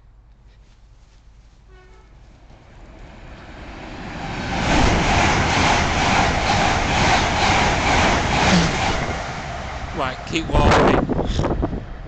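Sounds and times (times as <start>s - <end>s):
train passing: 1.4s - 12.0s.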